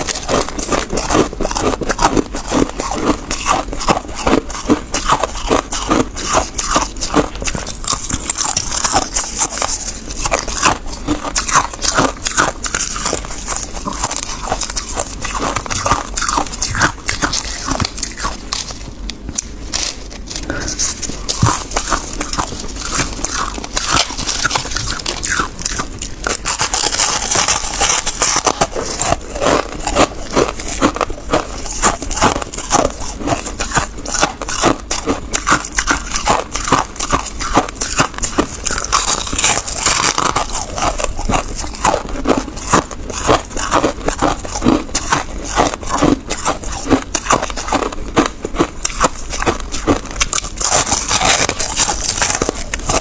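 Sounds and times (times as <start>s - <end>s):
ice crunching while chewed: 0.0s - 53.0s.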